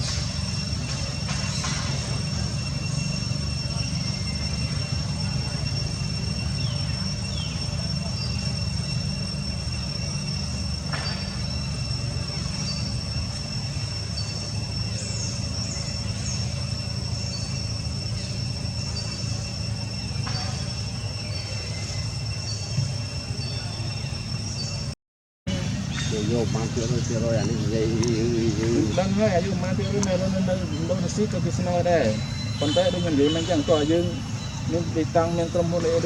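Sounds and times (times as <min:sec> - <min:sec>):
high insect-like buzz: 0:00.0 - 0:36.0.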